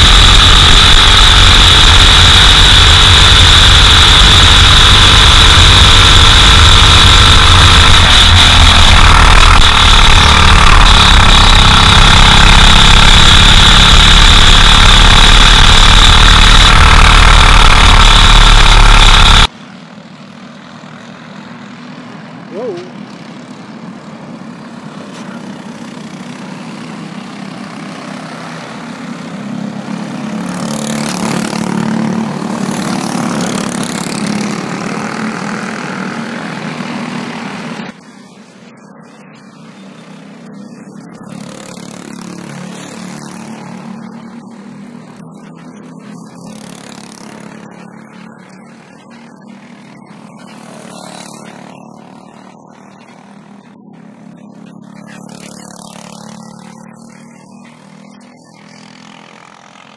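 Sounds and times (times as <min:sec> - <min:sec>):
racing karts passing at speed: 0:00.0 - 0:59.9.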